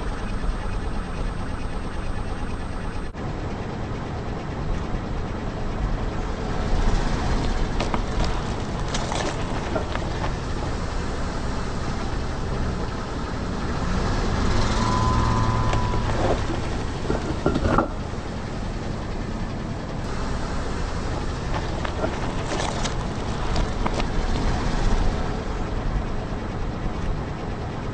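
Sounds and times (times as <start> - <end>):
car engine running slowly: 0.0 - 27.9
crackling under a tyre: 0.0 - 27.9.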